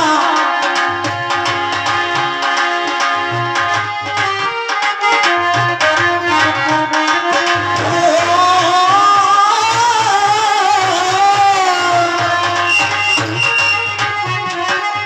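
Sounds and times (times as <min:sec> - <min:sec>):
harmonium notes: 0:00.0 - 0:15.0.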